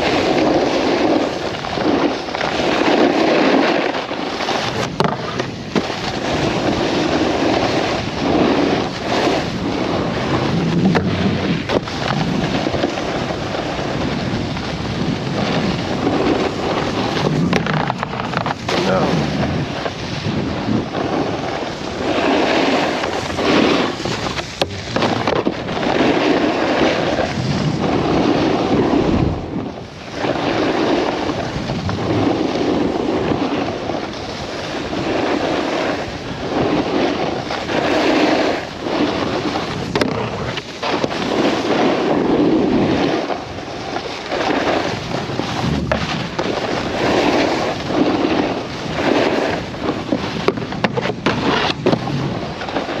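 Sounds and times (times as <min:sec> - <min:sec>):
snowboard scraping packed snow: 0:00.0 - 0:53.0
wind over camera microphone: 0:00.0 - 0:53.0.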